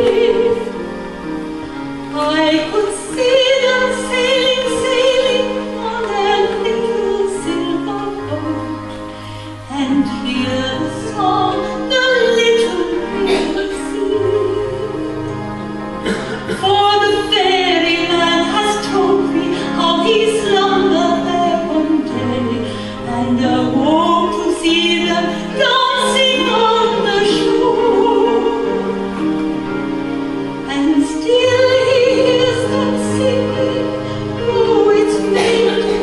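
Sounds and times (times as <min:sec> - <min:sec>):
woman singing operatically: 0:00.0 - 0:00.8, 0:02.1 - 0:08.8, 0:09.7 - 0:15.2, 0:16.5 - 0:29.1, 0:30.7 - 0:36.0.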